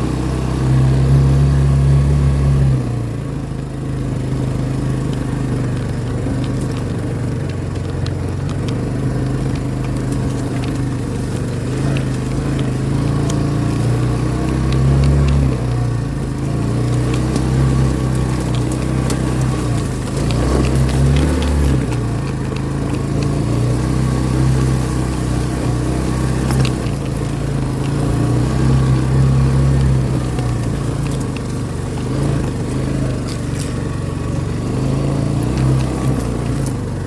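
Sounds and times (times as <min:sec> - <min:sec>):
vehicle engine running: 0:00.0 - 0:37.0
rattles and clicks: 0:02.8 - 0:37.0.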